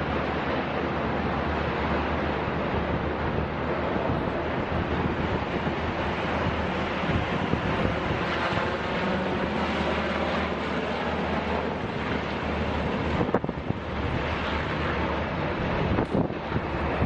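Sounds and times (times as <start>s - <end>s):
steady low rumble: 0.0s - 17.0s
wind rushing over microphone: 0.0s - 17.0s.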